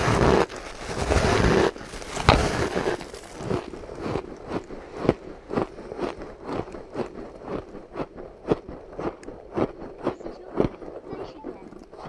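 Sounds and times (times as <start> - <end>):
chewing crushed ice: 0.0 - 12.0.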